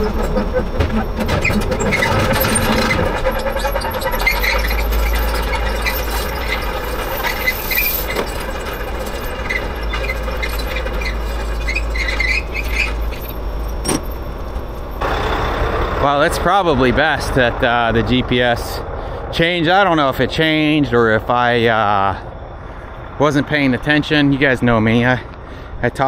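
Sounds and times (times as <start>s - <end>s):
steel tracks squealing: 0.0s - 25.2s
diesel engine under load: 0.0s - 26.0s.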